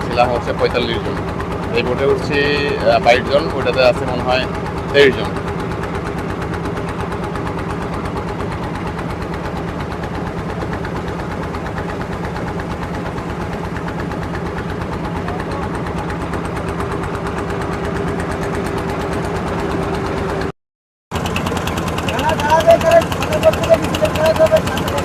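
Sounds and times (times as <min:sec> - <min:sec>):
motorboat engine chugging: 0:00.0 - 0:20.5, 0:21.1 - 0:25.0.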